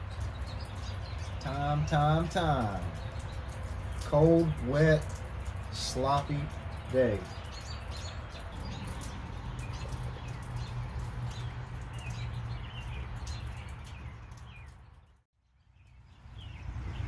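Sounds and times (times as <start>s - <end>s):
low outdoor rumble: 0.0s - 15.2s
small birds chirping: 0.0s - 17.0s.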